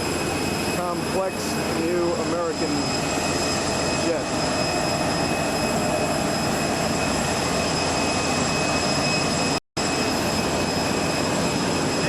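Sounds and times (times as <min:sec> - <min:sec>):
jet aircraft roar: 0:00.0 - 0:12.0
faint high steady tones: 0:00.2 - 0:12.0.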